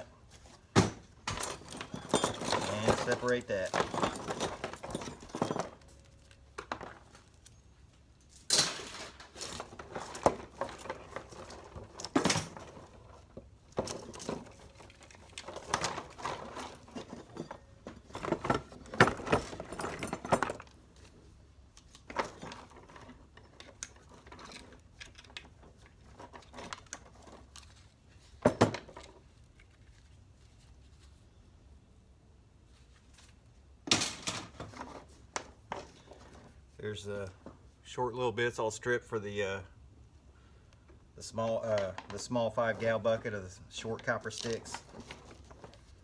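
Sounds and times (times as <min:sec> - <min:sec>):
scrap metal clinking and rattling: 0:00.2 - 0:30.1, 0:33.9 - 0:36.7, 0:41.5 - 0:46.0.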